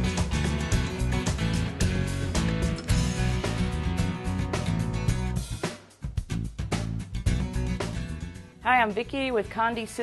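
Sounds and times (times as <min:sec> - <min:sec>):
intro music with drum beat: 0:00.0 - 0:08.5.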